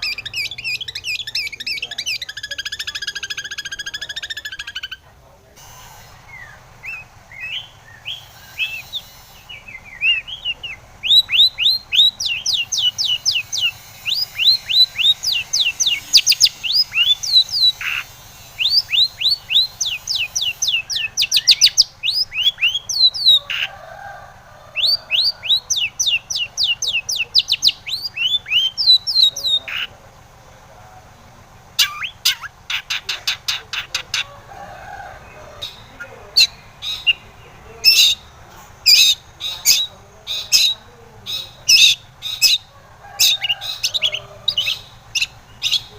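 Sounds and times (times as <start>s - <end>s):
shrike singing sharp chirps: 0.0s - 23.7s, 24.7s - 30.0s, 31.6s - 34.3s, 35.1s - 45.9s.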